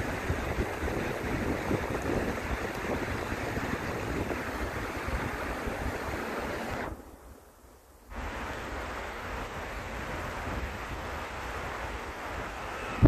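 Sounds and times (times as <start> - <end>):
wind buffeting microphone: 0.0 - 7.4, 8.1 - 13.0.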